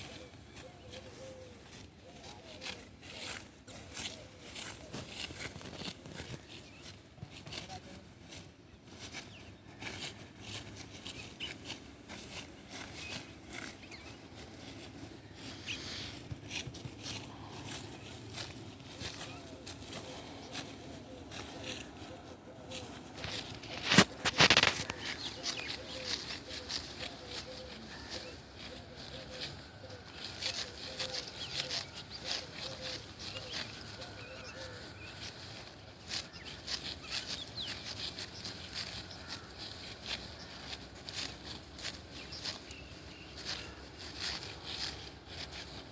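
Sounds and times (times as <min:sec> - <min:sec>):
sickle cutting rice stalks: 0:00.0 - 0:45.9.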